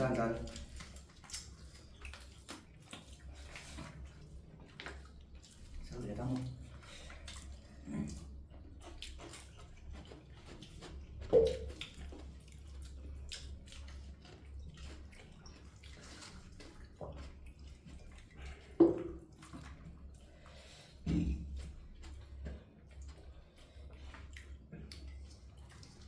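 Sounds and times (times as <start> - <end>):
people chewing: 0.0 - 26.0.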